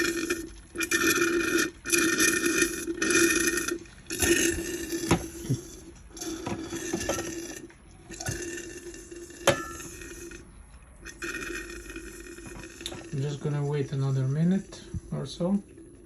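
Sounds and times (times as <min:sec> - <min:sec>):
water pump buzzing: 0:00.0 - 0:16.0.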